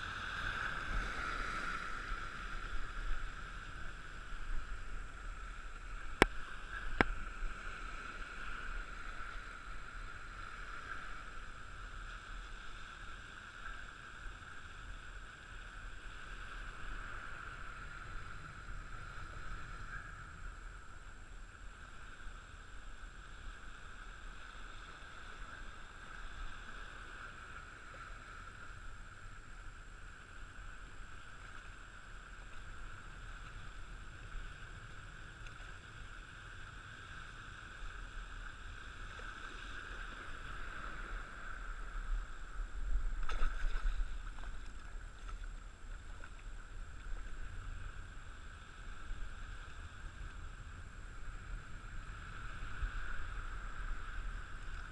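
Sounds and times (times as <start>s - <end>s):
muffled wind: 0.0s - 54.9s
open water wash: 0.0s - 54.9s.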